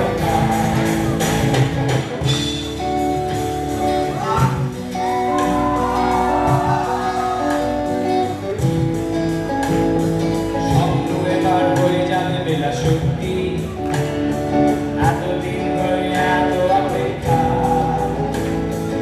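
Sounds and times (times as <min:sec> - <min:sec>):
bass guitar: 0:00.0 - 0:19.0
drums: 0:00.0 - 0:19.0
electric guitar melody: 0:00.0 - 0:19.0.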